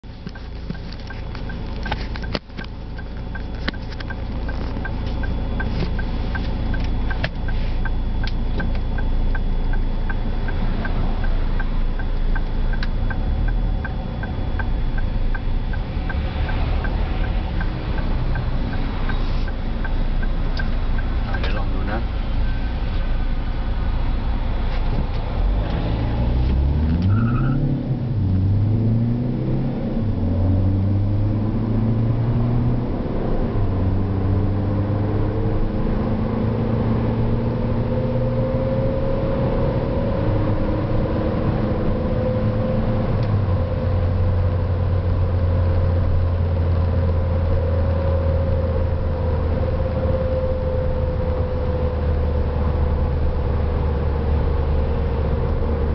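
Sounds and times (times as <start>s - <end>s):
diesel car exhaust drone: 0.0s - 55.9s.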